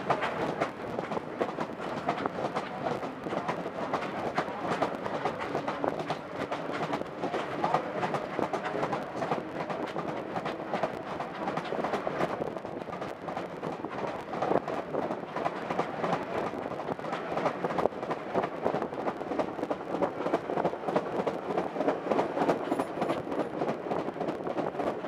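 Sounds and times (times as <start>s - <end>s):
train rolling noise: 0.0s - 25.0s
train wheels clattering on track: 0.0s - 25.0s.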